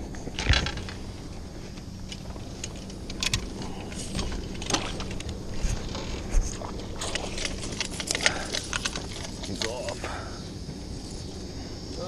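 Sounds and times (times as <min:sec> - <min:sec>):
gear clicking and rattling: 0:00.0 - 0:10.3
faint low hum: 0:00.0 - 0:12.0.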